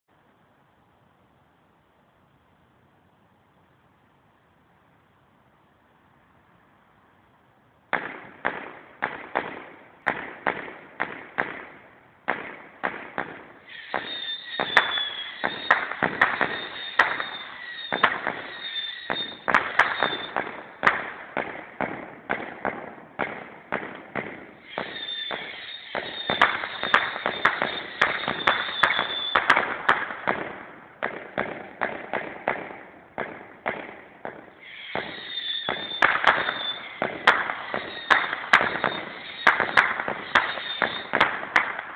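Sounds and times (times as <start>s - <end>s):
firework cake bangs: 8.0s - 41.9s
whistling firework comets: 8.0s - 41.9s.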